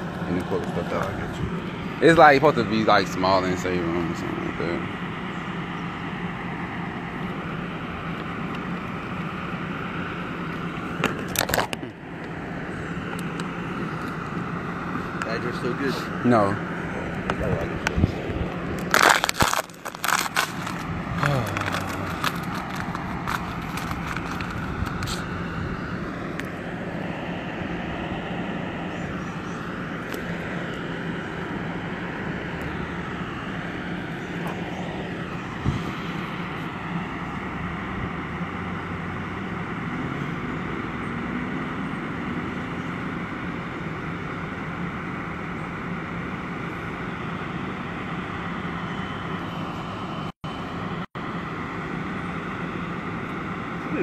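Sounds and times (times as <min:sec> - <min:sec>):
outdoor noise: 0:00.0 - 0:54.0
vehicle engine idling: 0:00.0 - 0:54.0.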